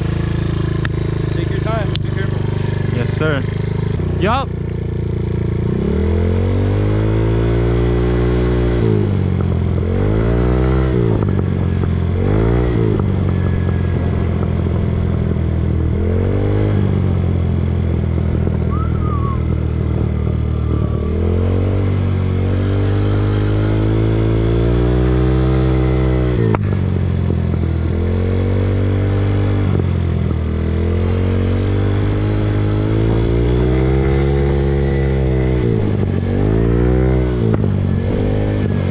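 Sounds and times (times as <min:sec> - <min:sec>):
moped engine revving: 0:00.0 - 0:38.9.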